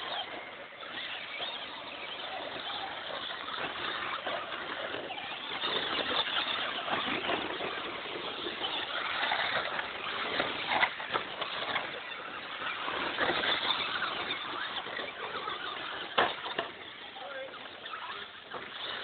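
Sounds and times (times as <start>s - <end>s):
toy cars whirring: 0.0s - 19.0s.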